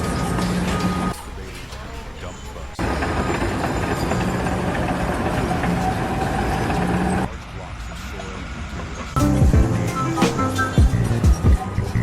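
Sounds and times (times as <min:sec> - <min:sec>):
loud mechanical rumble: 0:00.0 - 0:12.0.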